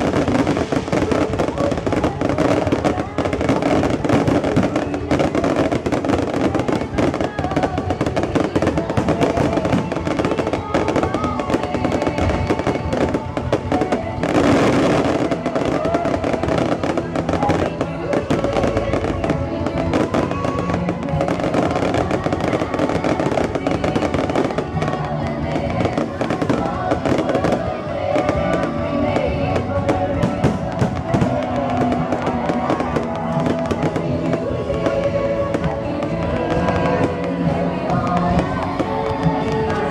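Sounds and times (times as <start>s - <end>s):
fireworks crackling and banging: 0.0s - 39.9s
music playing: 0.0s - 39.9s.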